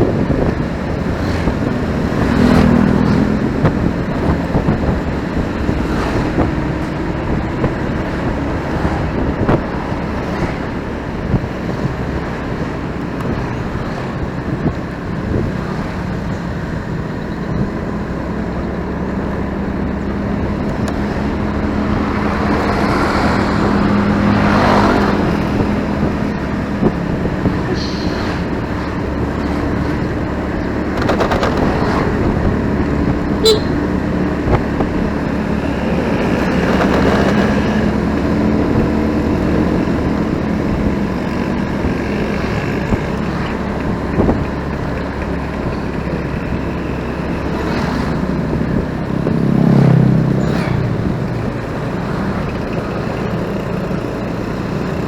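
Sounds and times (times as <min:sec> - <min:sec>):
motorcycle engine humming: 0:00.0 - 0:55.0
vehicles passing: 0:00.0 - 0:55.0
wind and road noise: 0:00.0 - 0:55.0.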